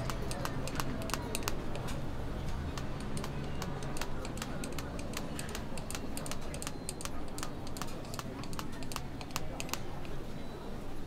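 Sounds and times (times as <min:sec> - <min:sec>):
batter dispenser clicking: 0:00.0 - 0:02.0, 0:02.6 - 0:10.2.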